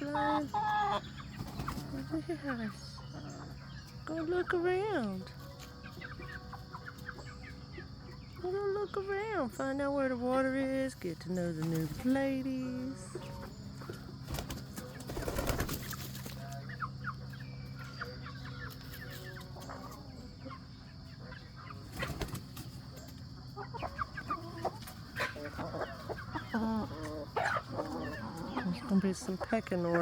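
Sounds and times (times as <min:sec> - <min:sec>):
chickens clucking: 0:00.0 - 0:30.0
chicks peeping: 0:00.0 - 0:30.0.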